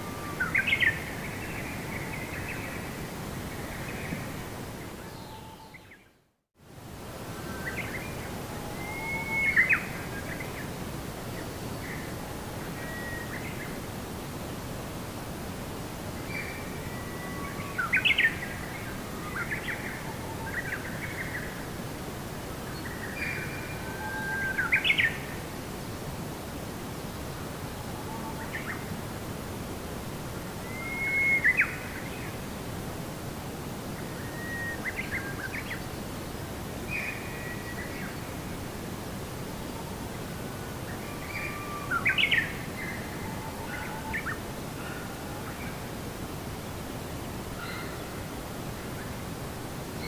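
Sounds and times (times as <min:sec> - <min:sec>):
steady background hiss: 0:00.0 - 0:50.0.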